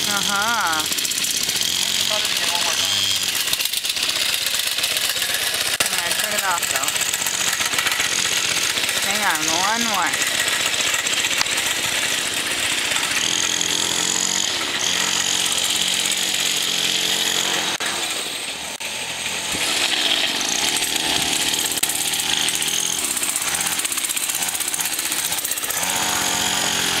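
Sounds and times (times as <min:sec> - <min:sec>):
small dirt bike engine revving: 0:00.0 - 0:27.0.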